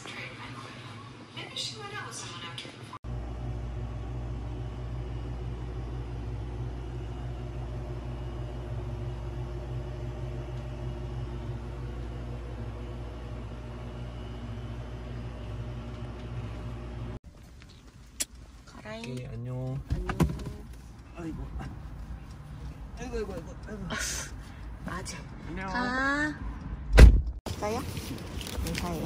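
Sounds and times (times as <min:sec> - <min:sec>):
refrigeration unit hum: 0:00.0 - 0:29.0.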